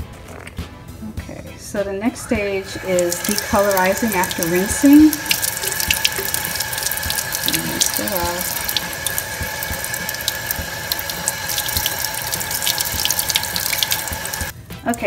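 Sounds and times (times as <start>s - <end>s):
tap water running into a sink: 2.6s - 15.0s.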